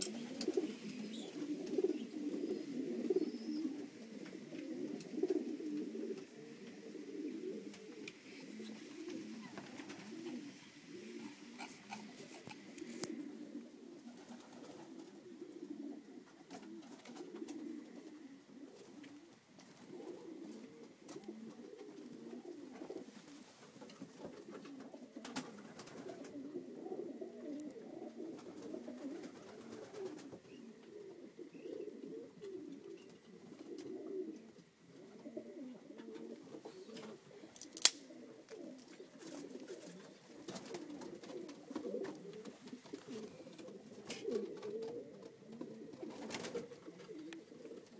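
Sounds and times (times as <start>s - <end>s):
pigeons cooing: 0.0s - 47.9s.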